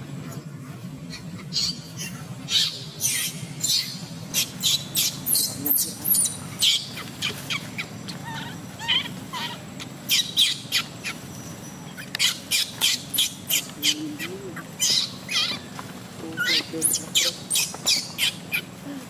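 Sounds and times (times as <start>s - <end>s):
baby monkey crying: 1.0s - 11.3s, 11.9s - 18.8s.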